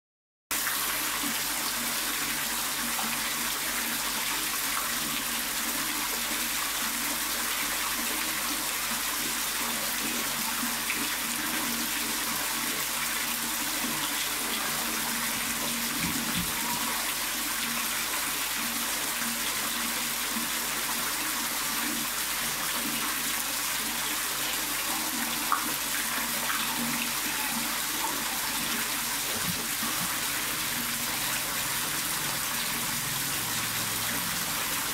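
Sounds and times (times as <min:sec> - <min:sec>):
water pouring into a tank: 0:00.5 - 0:34.9.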